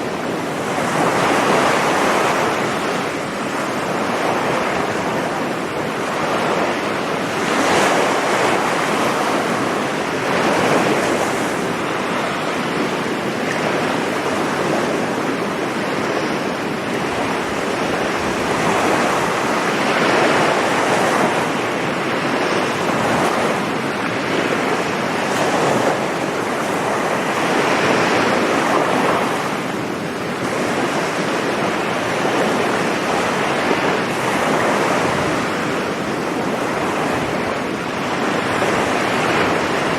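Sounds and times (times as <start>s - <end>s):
sea waves breaking on beach: 0.0s - 39.9s
wind on microphone: 0.0s - 39.9s.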